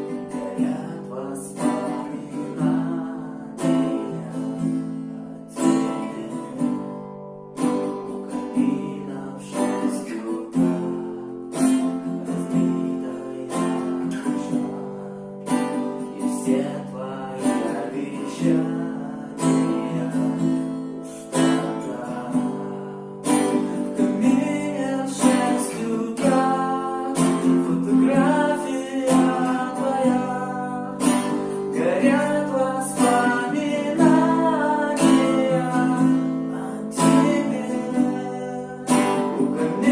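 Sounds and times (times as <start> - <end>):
person singing: 0.0 - 7.0, 8.1 - 39.9
acoustic guitar strumming: 0.0 - 39.9.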